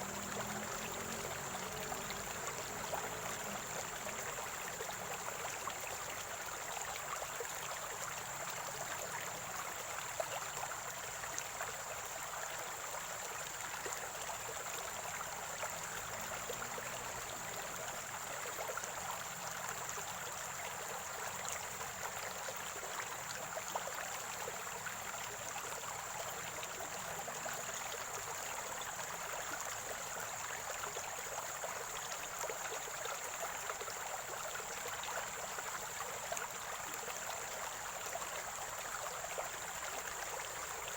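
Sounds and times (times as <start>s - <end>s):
stream water gurgling: 0.0s - 40.9s.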